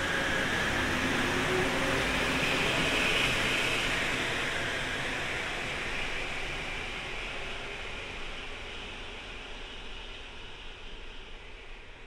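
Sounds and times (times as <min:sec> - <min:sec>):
train rumbling along platform: 0:00.0 - 0:10.9.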